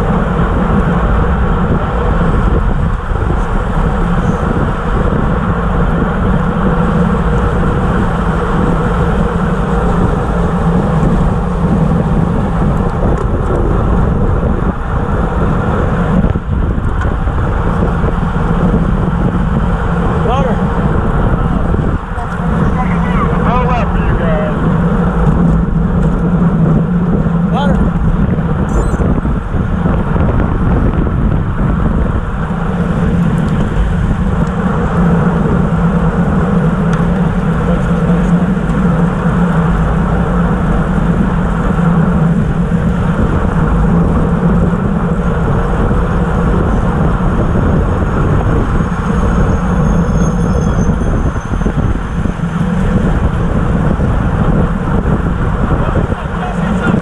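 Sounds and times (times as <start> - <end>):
bicycle road rumble: 0.0 - 57.0
wind noise: 0.0 - 57.0.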